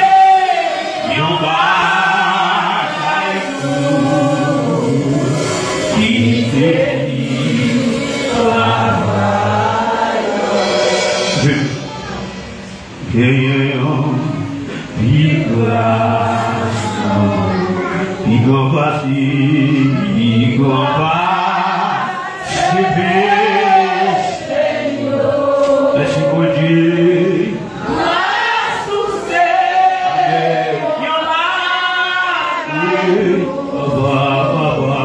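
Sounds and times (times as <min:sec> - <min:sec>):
group singing a hymn: 0:00.0 - 0:35.0.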